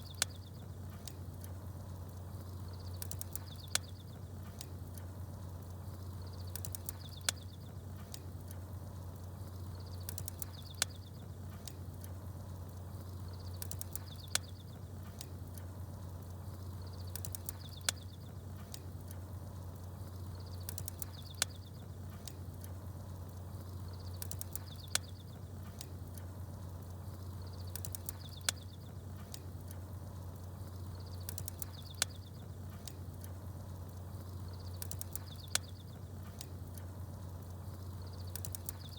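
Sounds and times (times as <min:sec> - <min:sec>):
campfire crackling: 0:00.0 - 0:38.9
small birds chirping: 0:00.0 - 0:38.9
steady low hum: 0:00.0 - 0:38.9.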